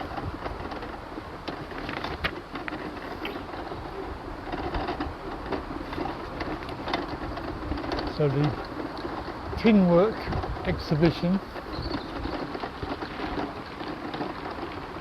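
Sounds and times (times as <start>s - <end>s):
clicks and creaks: 0.0s - 15.0s
mobility scooter running: 0.0s - 15.0s.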